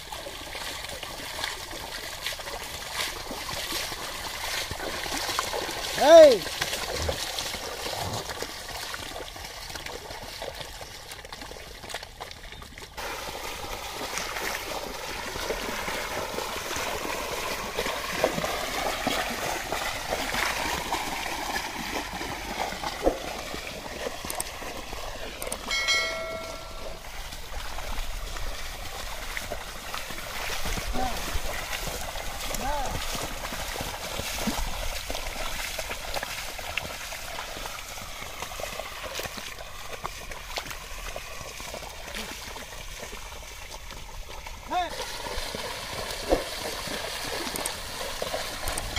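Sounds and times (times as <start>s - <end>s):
muddy water sloshing and splashing: 0.0s - 48.9s.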